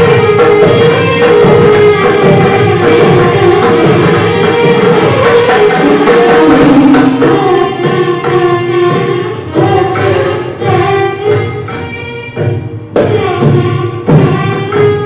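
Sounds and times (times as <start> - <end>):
hand drum strokes: 0.0 - 15.0
violins playing melody: 0.0 - 15.0.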